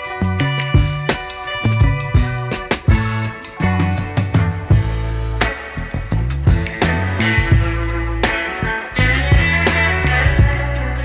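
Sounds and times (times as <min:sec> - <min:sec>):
instrumental background music: 0:00.0 - 0:11.0
low bass line: 0:00.2 - 0:11.0
drum hits: 0:00.8 - 0:10.6.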